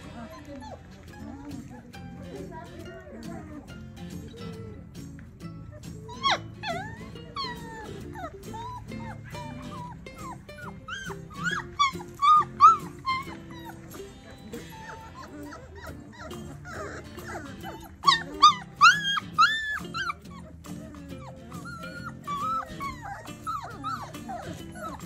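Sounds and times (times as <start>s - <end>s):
music: 0.0s - 25.0s
puppies yipping and whining: 0.0s - 25.0s.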